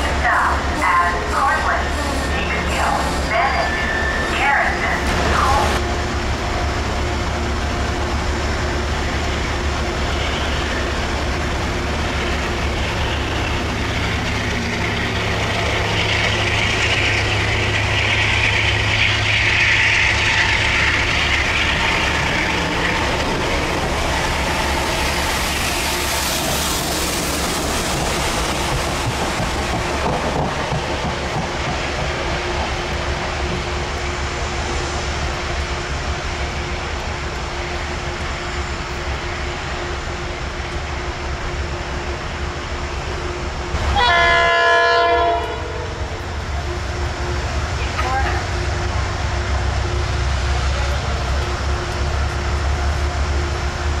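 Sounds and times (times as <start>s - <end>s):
train running on tracks: 0.0s - 54.0s.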